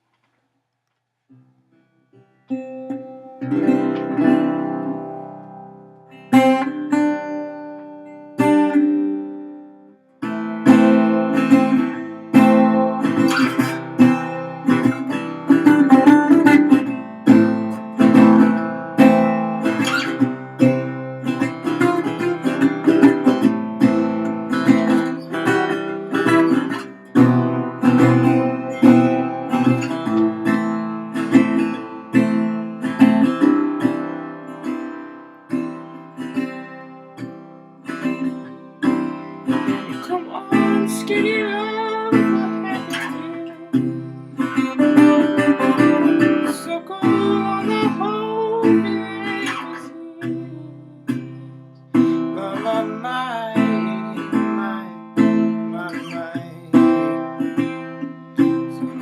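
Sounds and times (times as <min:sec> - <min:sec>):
resonator guitar strummed: 0:02.1 - 0:59.0.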